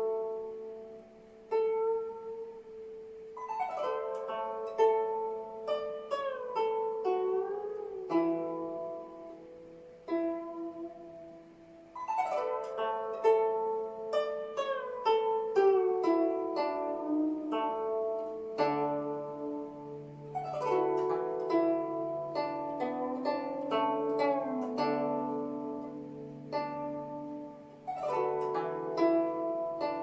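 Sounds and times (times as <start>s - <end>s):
plucked zither notes: 0.0s - 30.0s.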